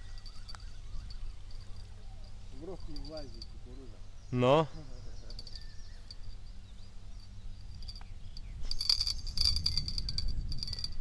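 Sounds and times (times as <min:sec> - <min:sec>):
insect chirring: 0:00.0 - 0:11.0.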